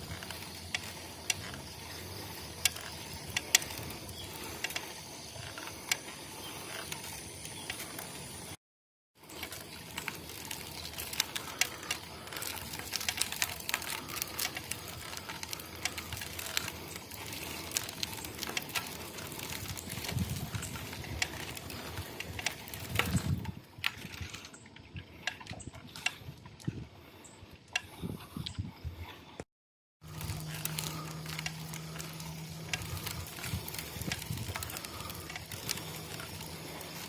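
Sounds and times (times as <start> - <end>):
bike clicking: 0.0 - 8.6, 9.2 - 29.4, 30.0 - 37.0.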